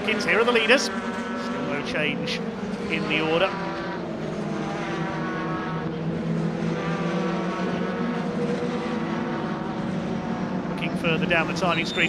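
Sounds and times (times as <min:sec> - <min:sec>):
racing truck engines: 0:00.0 - 0:12.0.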